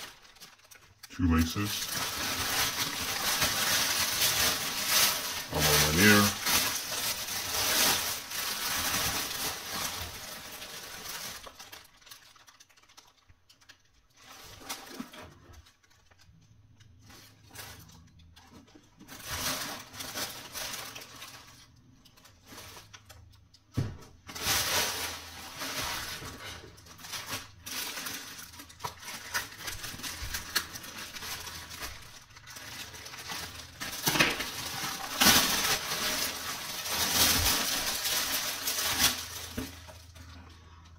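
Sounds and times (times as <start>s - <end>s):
plastic bags crinkling: 0.0s - 40.9s.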